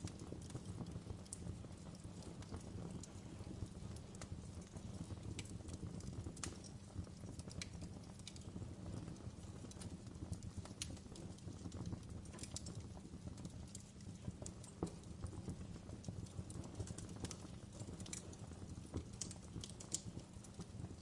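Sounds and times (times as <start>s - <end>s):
low rumble of burning fire: 0.0s - 21.0s
wood fire crackling and popping: 0.0s - 21.0s.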